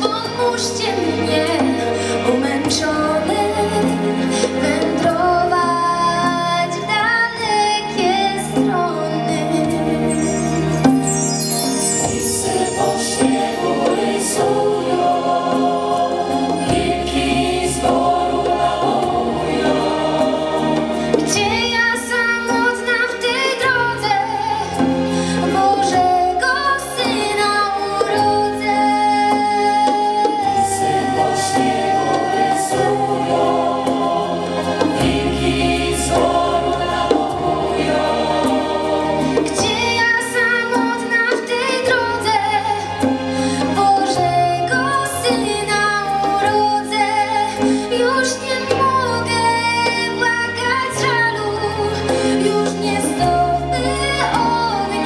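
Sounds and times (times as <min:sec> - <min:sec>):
band with keyboard drums and strings: 0:00.0 - 0:55.0
large choir singing: 0:00.0 - 0:55.0.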